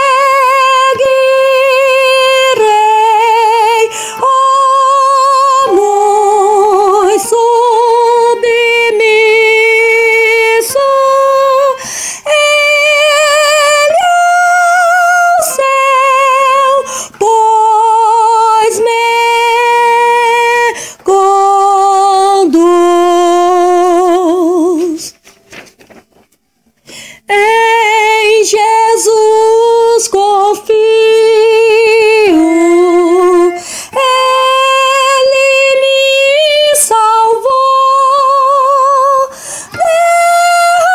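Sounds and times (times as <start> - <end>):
soprano singing with vibrato: 0.0 - 25.2, 27.2 - 40.9.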